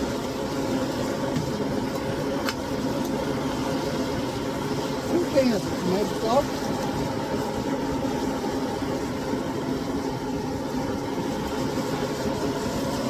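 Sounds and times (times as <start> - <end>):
steady engine-like hum: 0.0 - 13.0.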